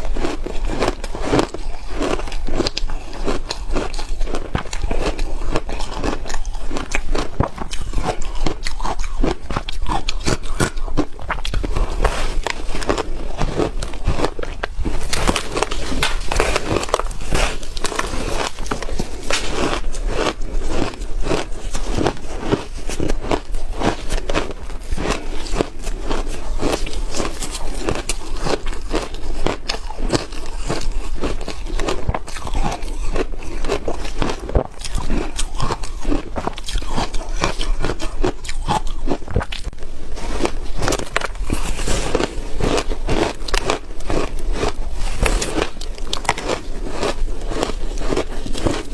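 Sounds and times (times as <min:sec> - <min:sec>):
ice being chewed: 0:00.0 - 0:48.9.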